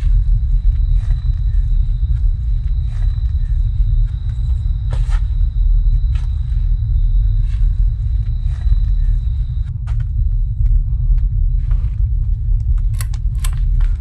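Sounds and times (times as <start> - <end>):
loud low rumble: 0.0 - 14.0.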